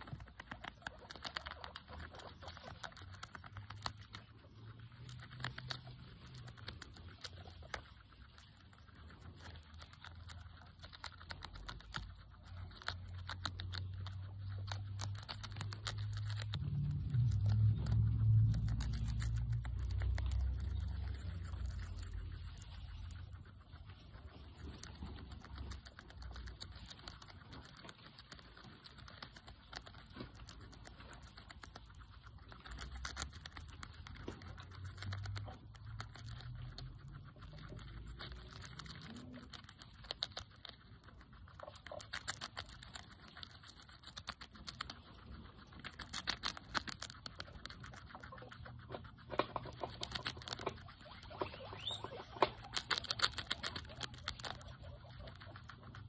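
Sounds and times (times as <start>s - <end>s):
guinea pig chewing lettuce: 0.0s - 56.0s.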